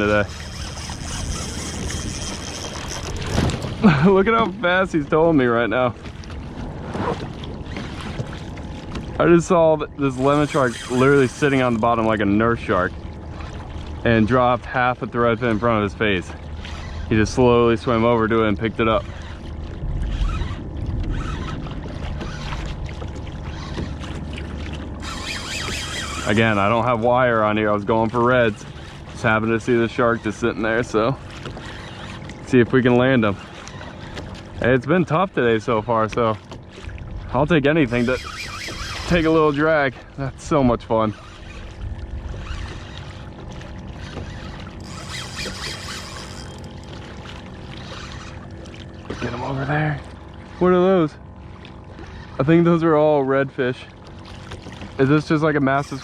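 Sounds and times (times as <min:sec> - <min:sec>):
wind rumble on microphone: 0:00.0 - 0:33.4, 0:34.0 - 0:47.3
water lapping along a hull: 0:00.0 - 0:56.0.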